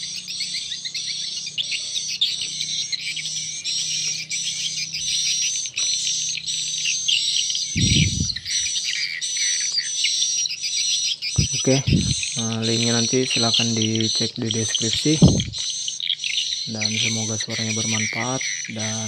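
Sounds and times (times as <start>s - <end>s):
recorded bird chirping and twittering: 0.0s - 19.0s.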